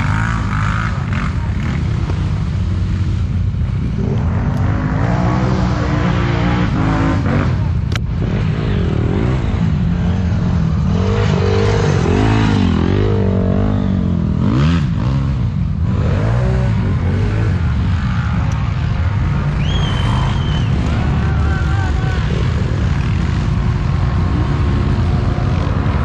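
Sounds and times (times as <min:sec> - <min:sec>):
atv engine revving unevenly: 0:00.0 - 0:26.0.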